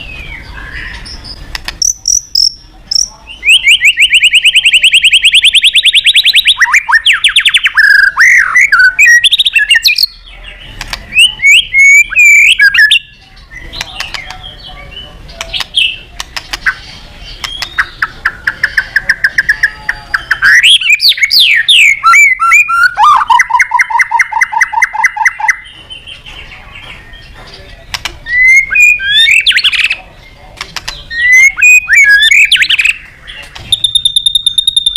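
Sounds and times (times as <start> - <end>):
songbird singing trills and whistles: 0.0 - 34.9.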